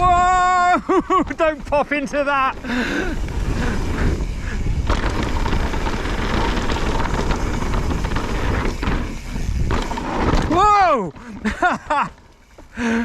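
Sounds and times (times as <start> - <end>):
wind rushing over microphone: 0.0 - 10.7
bike tyres rattling over ground: 0.0 - 13.0.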